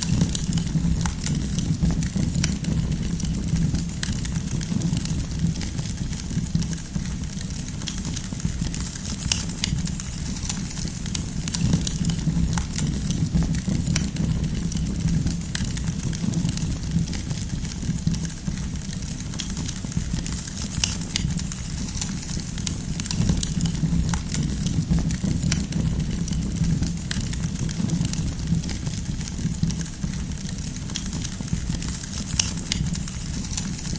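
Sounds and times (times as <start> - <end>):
campfire crackling: 0.0 - 33.9
fire popping: 0.0 - 33.9
low steady rumble: 0.0 - 33.9.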